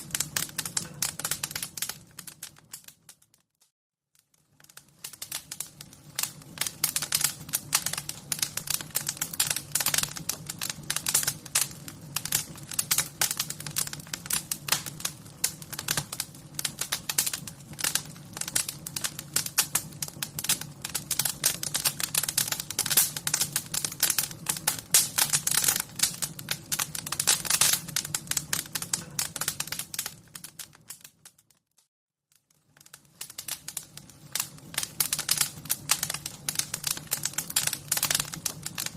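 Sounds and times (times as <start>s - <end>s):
wood fire crackling: 0.0s - 3.5s, 4.2s - 31.6s, 32.3s - 38.9s.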